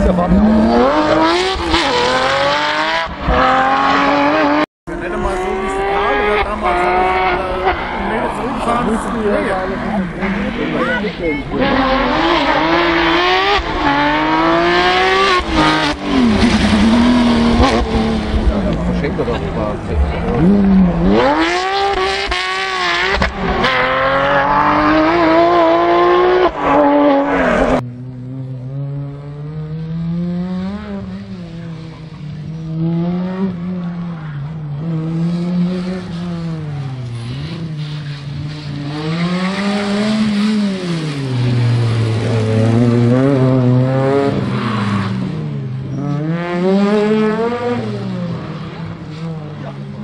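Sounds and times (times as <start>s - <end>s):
rally car engine revving: 0.0s - 50.0s
rally car engines shifting gears: 0.0s - 50.0s.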